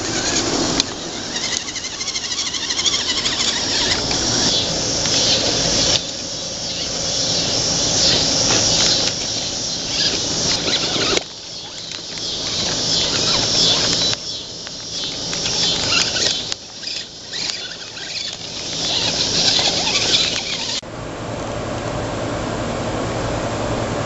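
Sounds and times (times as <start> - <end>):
electric motor whining: 0.0 - 20.8.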